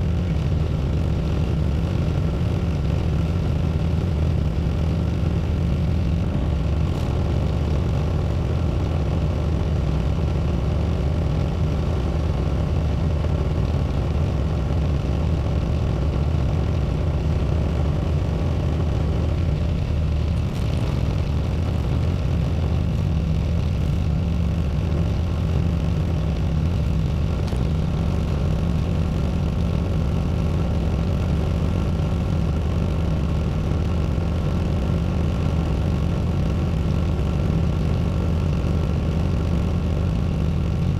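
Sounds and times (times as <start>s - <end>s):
small tractor engine running: 0.0s - 40.9s.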